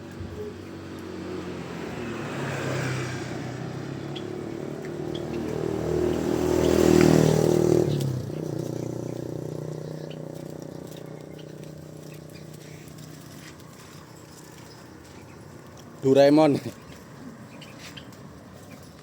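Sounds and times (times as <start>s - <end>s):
vehicle engine passing by: 0.0s - 19.0s.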